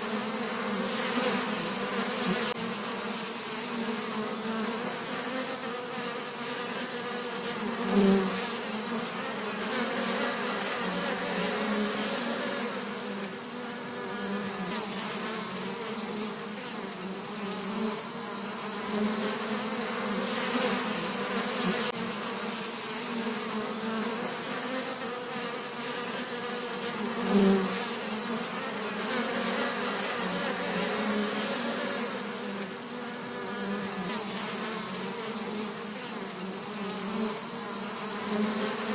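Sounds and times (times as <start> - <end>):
bee passing close: 0.0 - 38.9
bees buzzing: 0.0 - 38.9.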